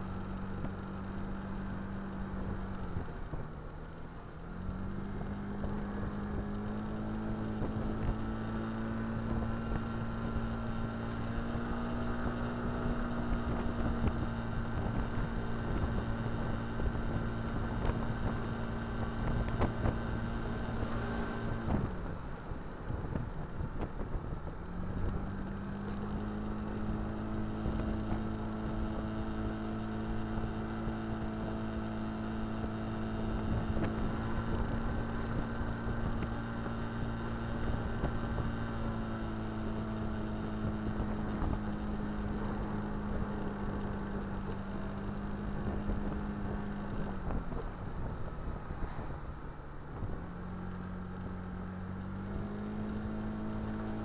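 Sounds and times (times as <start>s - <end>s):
road and wind noise: 0.0s - 54.0s
scooter engine running: 0.0s - 54.0s.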